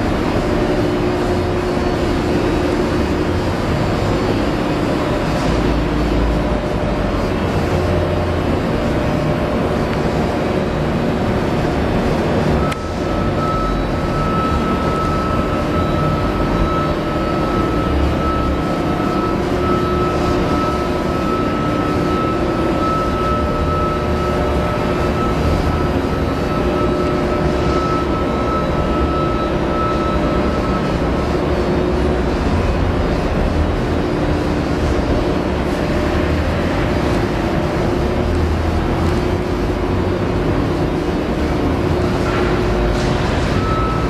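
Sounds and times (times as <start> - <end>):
high whine: 0.0 - 44.0.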